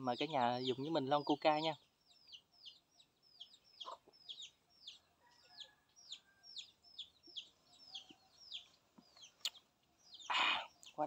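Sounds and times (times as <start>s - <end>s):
bird chirping faintly: 0.0s - 11.0s.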